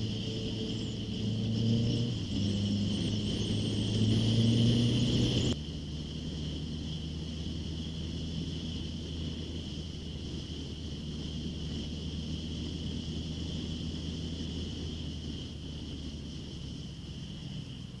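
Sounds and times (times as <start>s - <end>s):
high-pitched whine: 0.0s - 18.0s
motorcycle engine running: 0.0s - 18.0s.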